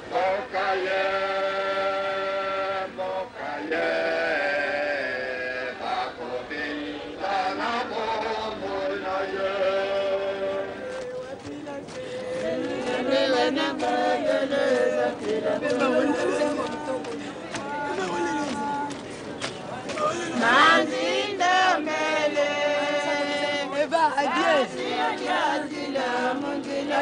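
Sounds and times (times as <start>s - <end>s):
voices singing a chant: 0.0s - 27.0s.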